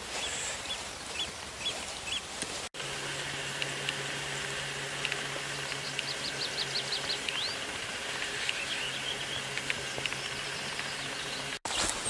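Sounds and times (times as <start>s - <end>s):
songbird singing: 0.0s - 2.4s, 3.4s - 12.0s.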